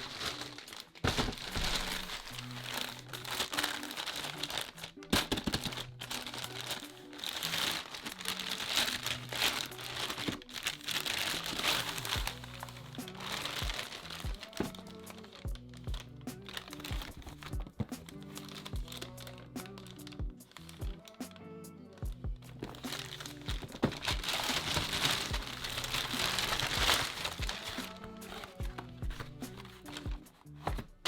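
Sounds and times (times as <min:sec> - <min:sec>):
packaging crinkling: 0:00.0 - 0:21.2, 0:22.5 - 0:31.0
background music: 0:00.0 - 0:31.0.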